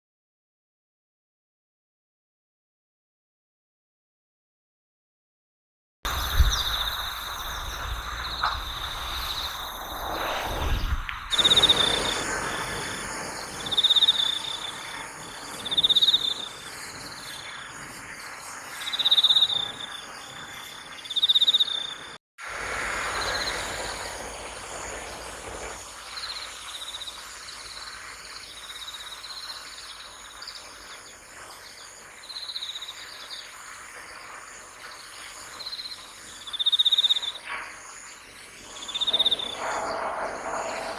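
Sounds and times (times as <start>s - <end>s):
crickets chirping: 6.1s - 40.9s
insect chorus: 6.1s - 40.9s.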